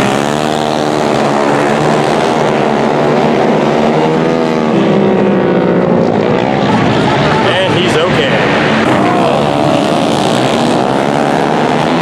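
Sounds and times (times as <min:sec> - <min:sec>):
quad engines revving: 0:00.0 - 0:12.0.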